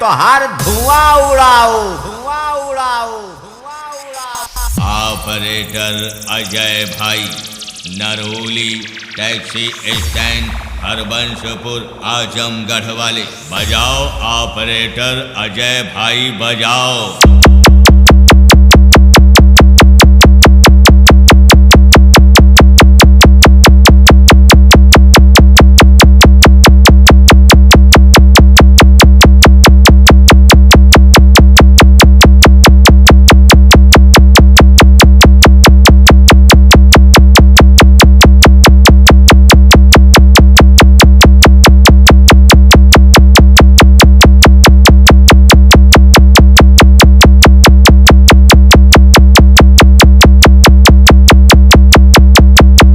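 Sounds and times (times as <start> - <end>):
electronic drum machine pulse: 0.6 - 15.4, 17.1 - 52.9
heavy deep bass tone: 4.6 - 52.9.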